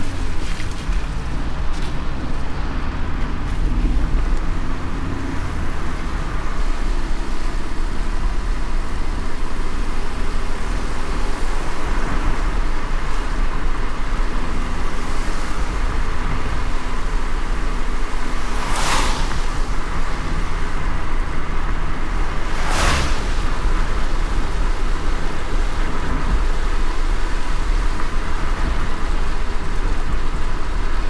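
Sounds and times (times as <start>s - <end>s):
car road and engine rumble: 0.0s - 31.0s
rain and wet tyres hissing: 0.0s - 31.0s.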